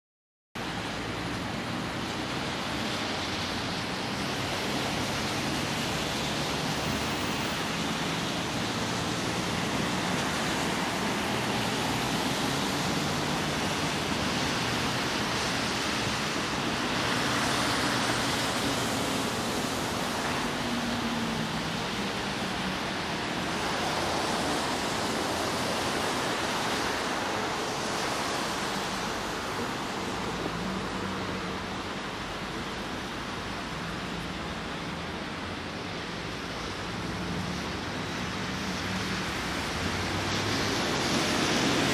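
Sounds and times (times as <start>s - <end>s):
tyres hissing on wet road: 0.6s - 41.9s.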